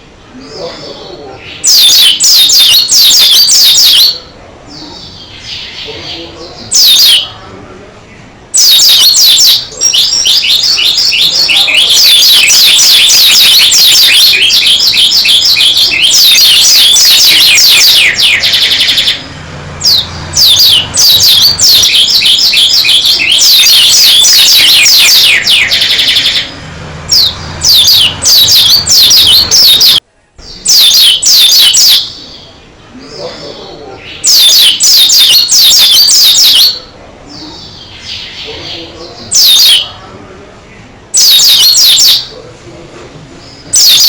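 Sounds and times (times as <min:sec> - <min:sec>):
bird singing with buzzy trills: 0:00.0 - 0:40.0, 0:40.7 - 0:42.4.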